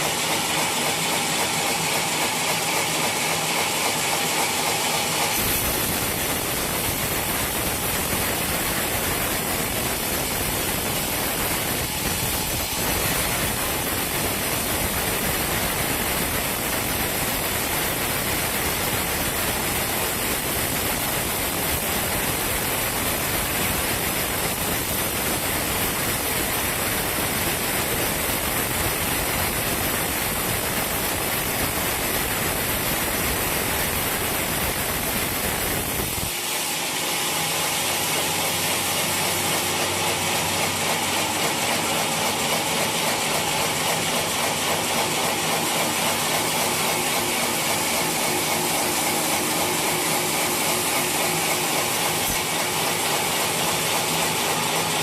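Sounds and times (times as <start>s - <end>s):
sawmill machine hum: 0.0s - 55.0s.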